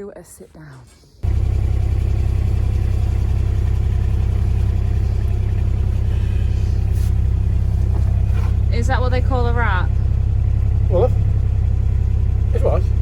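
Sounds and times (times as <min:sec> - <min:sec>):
engine running: 0:01.2 - 0:13.0.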